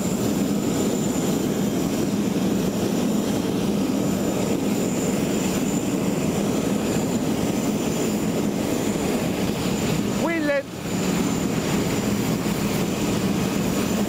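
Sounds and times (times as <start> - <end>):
jet aircraft engines running: 0.0 - 14.0.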